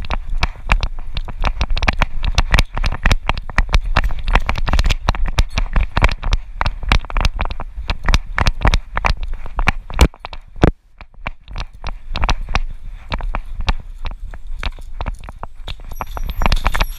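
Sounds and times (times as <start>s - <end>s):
rapid irregular clicking and knocking: 0.0s - 16.9s.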